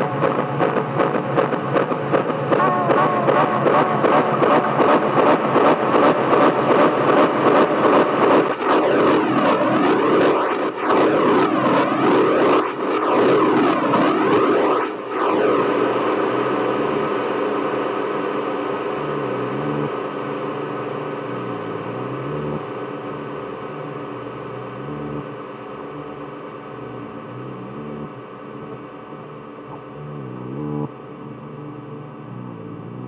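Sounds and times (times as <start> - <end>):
pulsing synthesizer tone: 0.0 - 33.0
synthesizer drone: 0.0 - 33.0.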